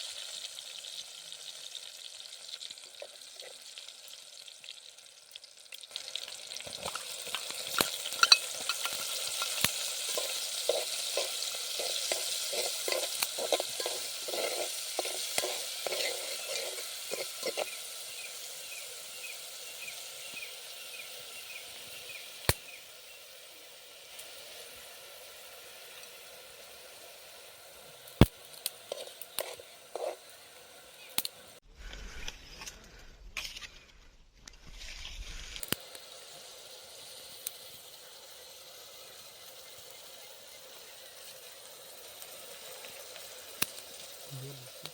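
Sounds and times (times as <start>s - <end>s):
food sizzling in a pan: 0.0s - 32.3s, 34.7s - 44.9s.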